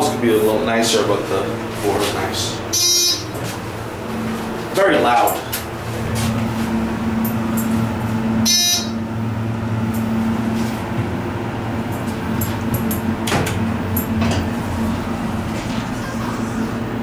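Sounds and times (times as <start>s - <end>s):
elevator pump motor humming: 0.0s - 17.0s.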